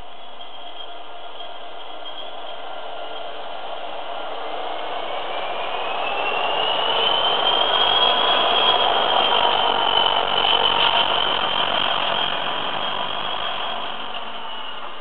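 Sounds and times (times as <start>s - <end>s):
diesel locomotive passing: 0.0s - 15.0s
high steady engine whine: 0.0s - 15.0s.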